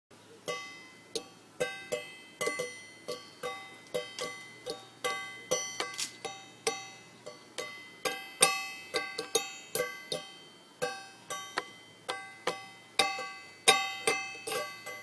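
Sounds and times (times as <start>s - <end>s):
slow ringing single notes: 0.5s - 15.0s.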